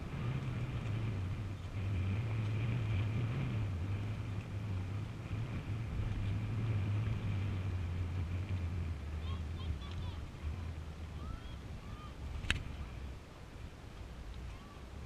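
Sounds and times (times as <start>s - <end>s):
motorboat engine idling: 0.0s - 15.0s.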